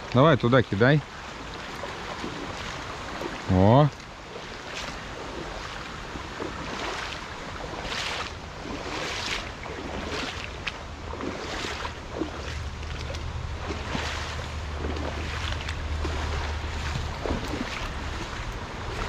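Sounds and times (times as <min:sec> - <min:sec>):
river water rushing: 0:00.0 - 0:19.0
wind on microphone: 0:01.4 - 0:19.0.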